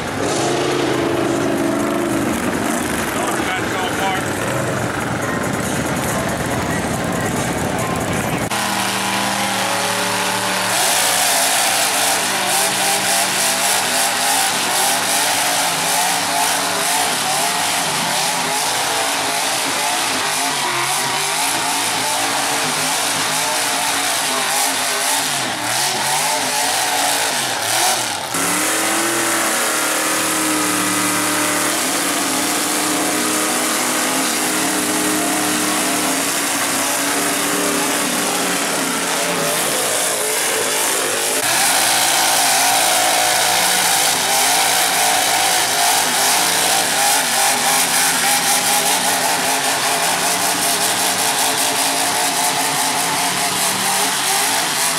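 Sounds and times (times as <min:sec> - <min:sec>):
truck engine at high revs: 0:00.0 - 0:54.9
truck engine revving hard: 0:00.0 - 0:54.9.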